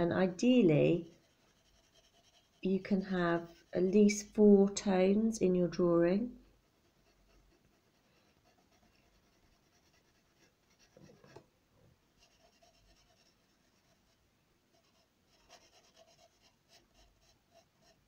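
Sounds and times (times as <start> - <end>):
pencil scratching on paper: 0.7 - 4.6, 6.6 - 11.4, 12.2 - 18.0.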